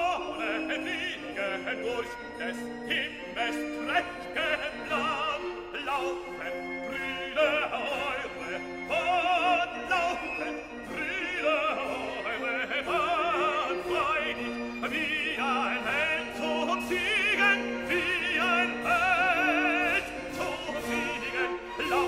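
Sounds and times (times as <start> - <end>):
operatic voice singing with vibrato: 0.0 - 22.0
orchestral accompaniment: 0.0 - 22.0.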